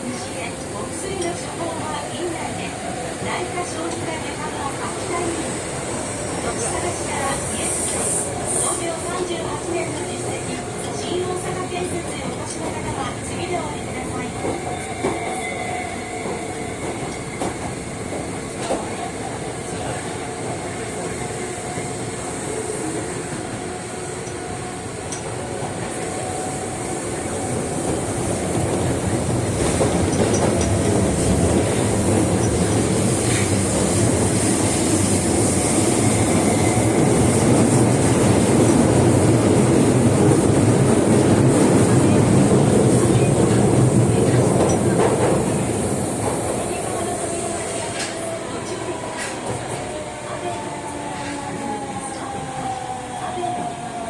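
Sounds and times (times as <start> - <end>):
subway train wheels on rails: 0.0 - 54.0.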